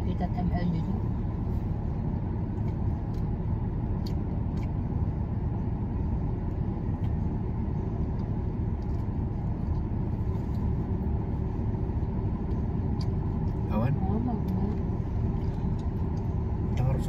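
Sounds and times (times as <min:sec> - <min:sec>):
vehicle engine low rumble: 0:00.0 - 0:17.0.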